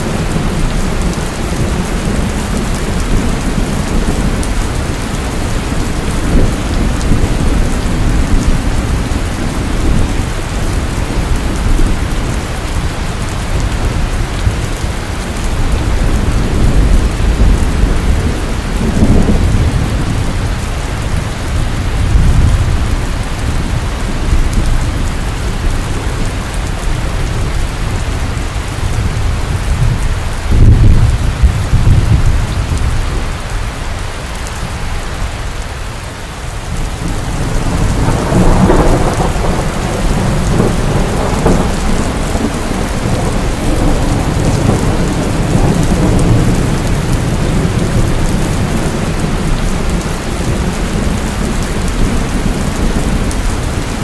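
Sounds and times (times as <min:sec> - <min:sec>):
thunder rumbling: 0:00.0 - 0:35.4, 0:36.0 - 0:54.0
heavy rain falling: 0:00.0 - 0:54.0.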